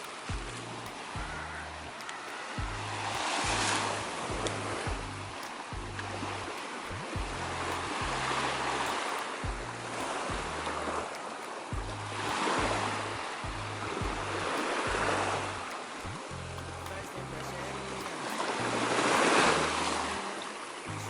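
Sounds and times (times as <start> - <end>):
background music with bass beat: 0.0 - 20.2
sea waves washing: 0.0 - 21.0.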